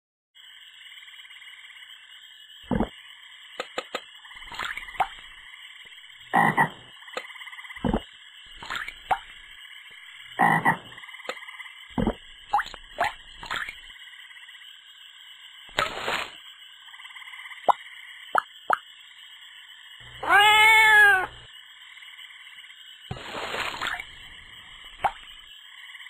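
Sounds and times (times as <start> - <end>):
frogs croaking: 0.4 - 26.0.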